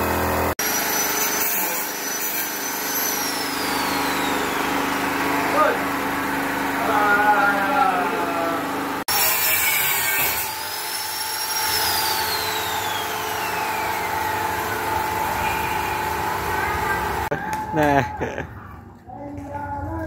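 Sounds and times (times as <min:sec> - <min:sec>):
power tool humming: 0:00.0 - 0:17.3
high whine: 0:00.0 - 0:17.7.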